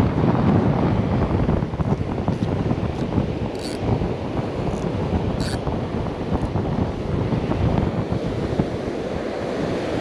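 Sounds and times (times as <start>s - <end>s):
surf washing on beach: 0.0s - 10.0s
wind buffeting microphone: 0.0s - 10.0s.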